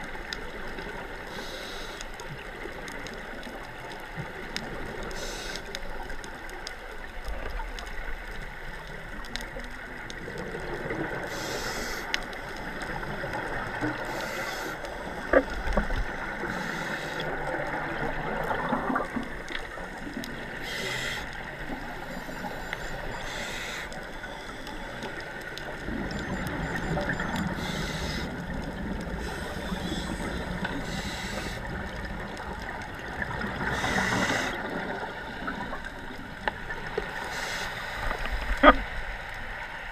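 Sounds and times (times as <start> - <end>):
underwater hiss and rumble: 0.0 - 39.9.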